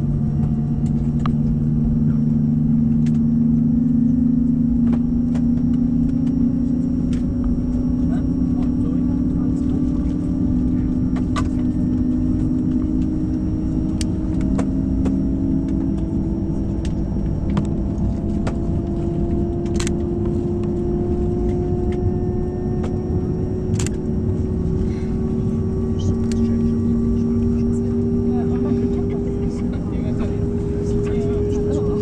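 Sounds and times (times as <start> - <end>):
jet engine rumble with whine: 0.0 - 32.0.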